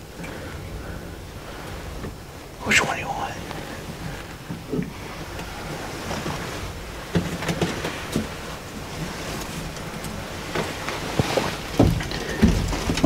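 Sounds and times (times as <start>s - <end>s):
clothing rustle: 1.4s - 13.0s.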